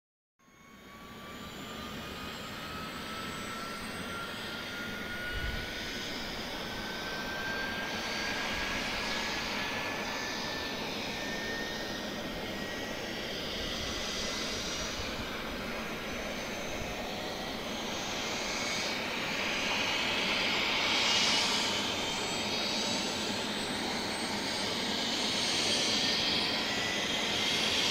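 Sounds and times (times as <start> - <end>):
helicopter engine whine: 0.4 - 27.9.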